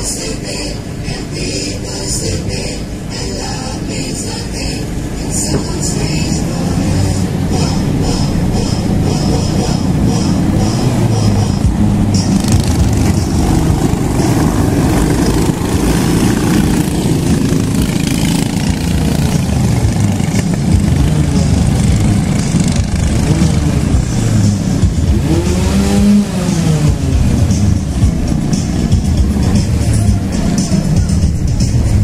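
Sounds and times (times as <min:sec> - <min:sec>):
racing kart engines: 0:00.0 - 0:32.0.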